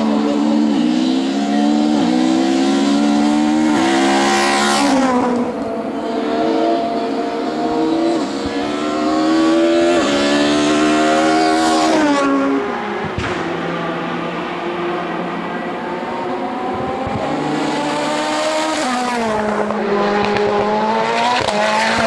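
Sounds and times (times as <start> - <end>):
race car engines revving: 0.0 - 22.0
race car passing by: 0.0 - 22.0.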